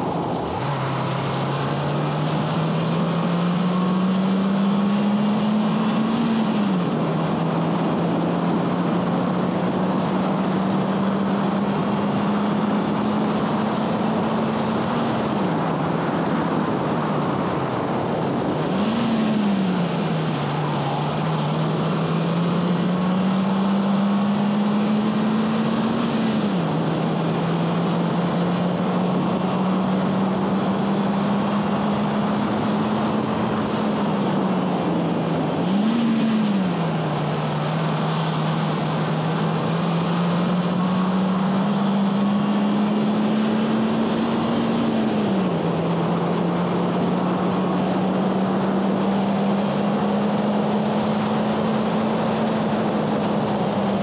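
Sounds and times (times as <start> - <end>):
car engine revving hard: 0.0 - 54.0
road and wind noise: 0.0 - 54.0.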